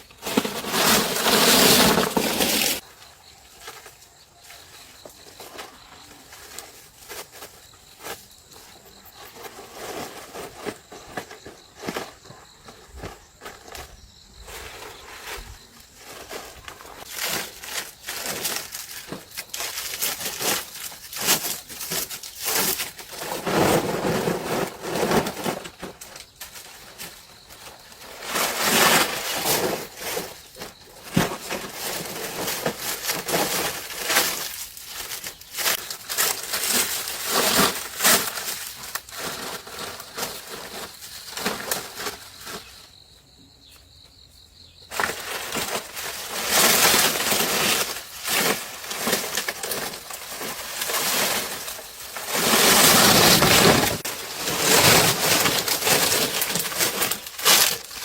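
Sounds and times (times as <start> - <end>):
building materials crunching and scraping: 0.0 - 43.1, 44.5 - 58.0.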